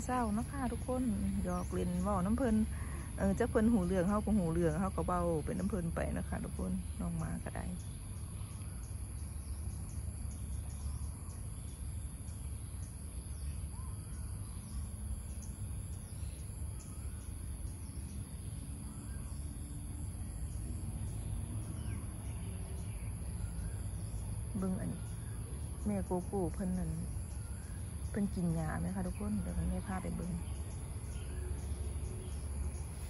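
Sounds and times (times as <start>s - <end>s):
crickets droning: 0.0s - 33.0s
faint bird chirps: 0.0s - 33.0s.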